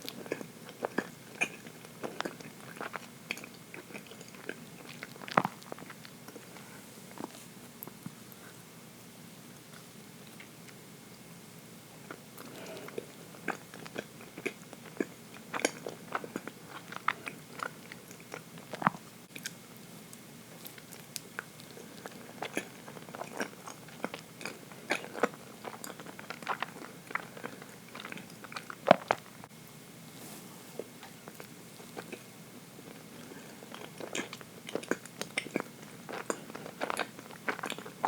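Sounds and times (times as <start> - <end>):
person chewing cake: 0.0 - 8.7, 9.5 - 11.2, 12.0 - 29.5, 30.7 - 38.0.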